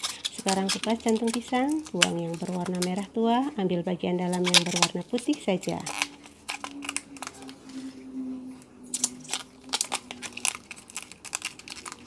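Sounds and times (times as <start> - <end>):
banana bracts tearing: 0.0 - 3.2, 4.3 - 8.0, 8.8 - 12.0.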